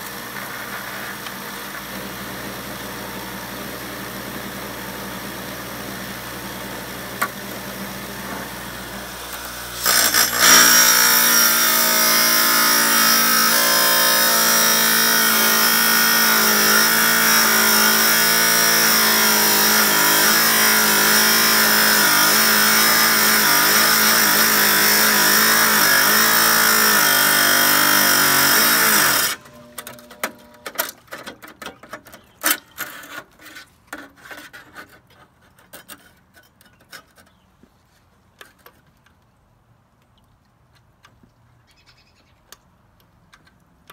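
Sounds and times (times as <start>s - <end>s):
tile saw grinding rock: 0.0s - 37.4s.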